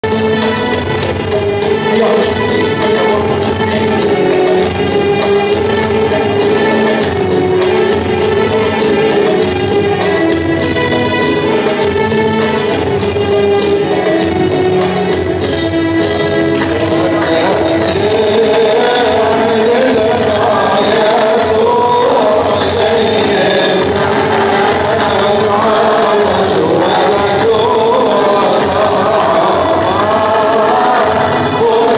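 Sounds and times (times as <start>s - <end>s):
held melodic tones: 0.0s - 31.9s
high ticking beat: 0.0s - 31.9s
percussion: 0.0s - 31.9s
wavering melody line: 0.2s - 31.9s.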